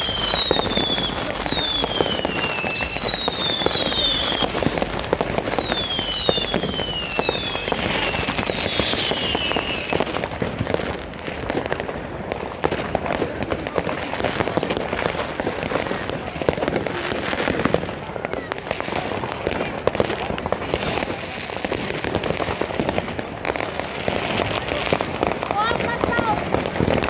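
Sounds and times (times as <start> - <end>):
fireworks crackling and banging: 0.0 - 27.0
whistling fireworks: 0.0 - 27.0.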